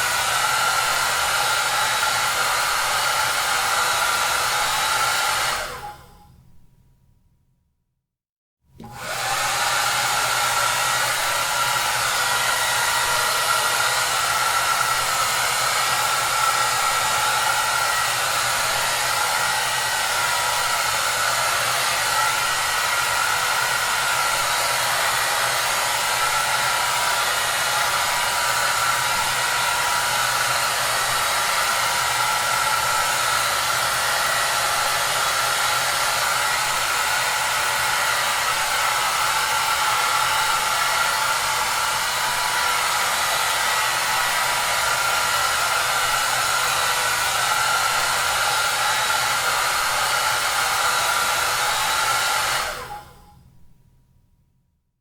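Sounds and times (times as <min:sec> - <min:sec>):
hair dryer running: 0:00.0 - 0:06.2, 0:08.8 - 0:53.4.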